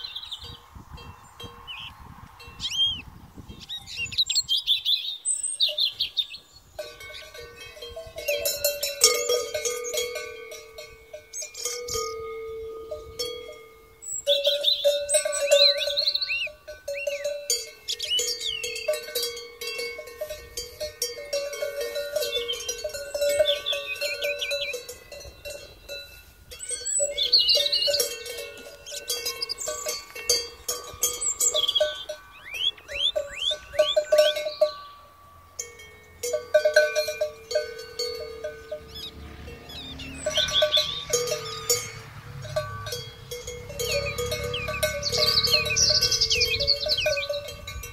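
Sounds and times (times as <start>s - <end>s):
cowbell clanking: 0.0s - 3.0s, 6.8s - 47.9s.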